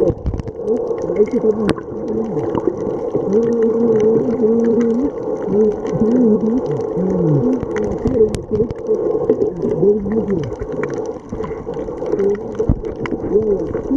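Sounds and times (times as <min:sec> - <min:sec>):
fine crackling ticks: 0:00.0 - 0:13.9
muffled voice through water: 0:00.0 - 0:13.9.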